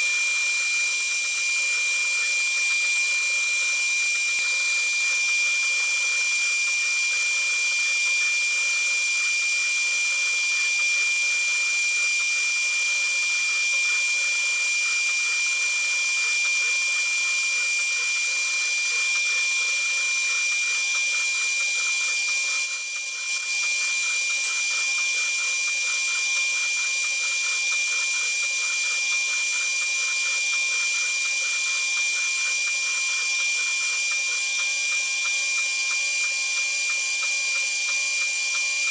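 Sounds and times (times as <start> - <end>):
router spindle high-pitched whine: 0.0 - 38.9.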